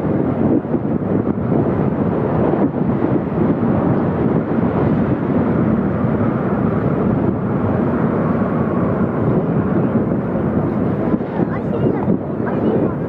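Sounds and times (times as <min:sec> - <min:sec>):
aircraft engines roaring: 0:00.0 - 0:13.0
wind on microphone: 0:00.0 - 0:13.0.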